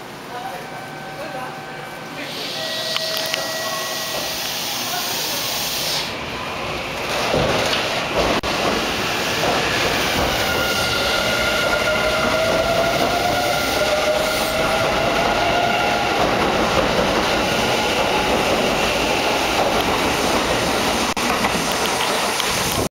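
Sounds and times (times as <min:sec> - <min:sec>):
wheel and rail noise: 0:01.4 - 0:22.9.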